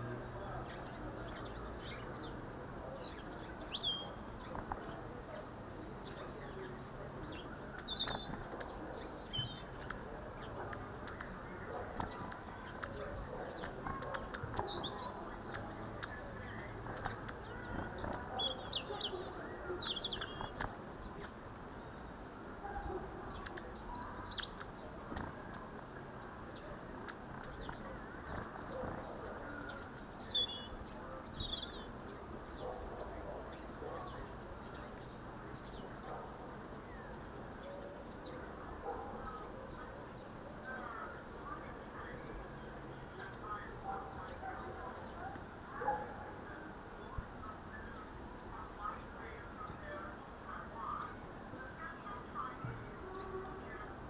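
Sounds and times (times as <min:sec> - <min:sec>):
outdoor background hiss: 0:00.0 - 0:54.0
small birds chirping: 0:00.0 - 0:54.0.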